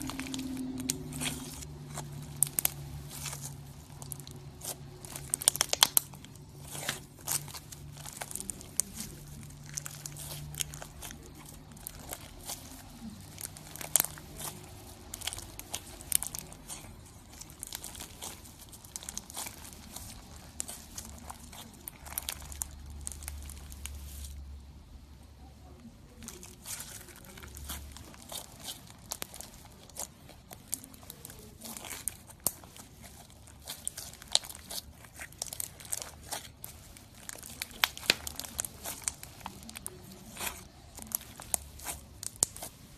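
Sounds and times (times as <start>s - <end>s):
crunchy slime crackling: 0.0s - 42.9s.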